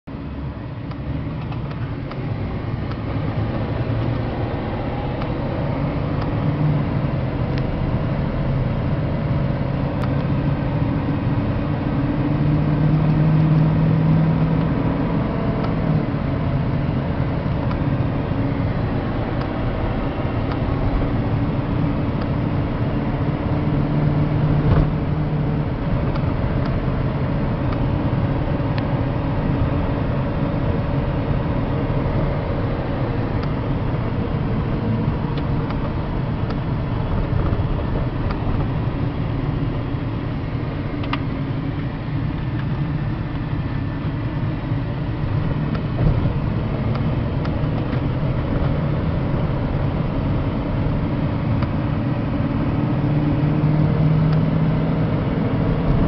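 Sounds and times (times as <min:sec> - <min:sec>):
road noise: 0:00.0 - 0:56.0
vehicle engine droning: 0:00.0 - 0:56.0.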